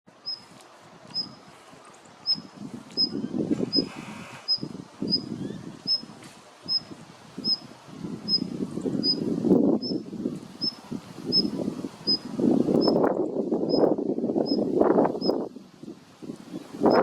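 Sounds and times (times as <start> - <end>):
wind rumble on microphone: 0.1 - 17.0.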